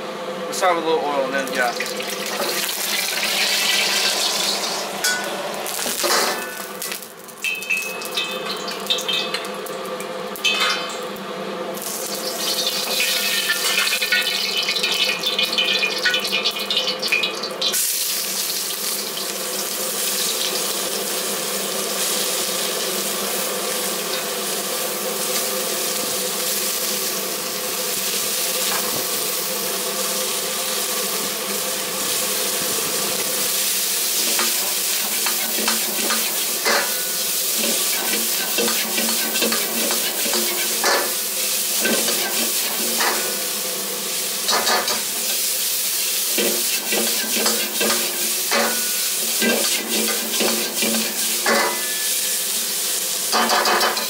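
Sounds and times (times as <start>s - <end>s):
gas burner running: 0.0s - 54.0s
hot oil crackling: 1.3s - 54.0s
vegetables sizzling in oil: 1.4s - 54.0s.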